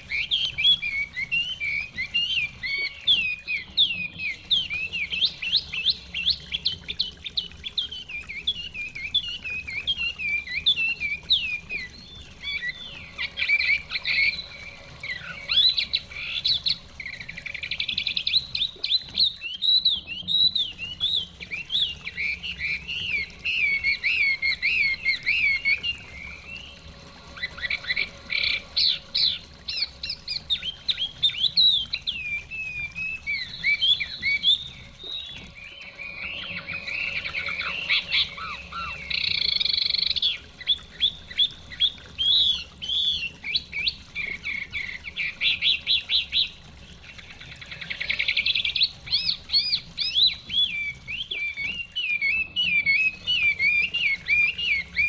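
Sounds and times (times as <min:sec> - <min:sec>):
bird singing whistled phrases: 0:00.0 - 0:46.6, 0:47.4 - 0:55.0
flowing stream: 0:00.0 - 0:55.0.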